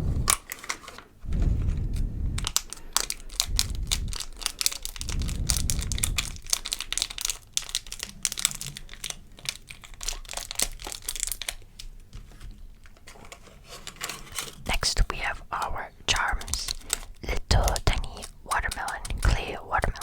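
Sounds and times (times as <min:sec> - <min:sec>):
packaging crinkling and tearing: 0:00.3 - 0:20.0.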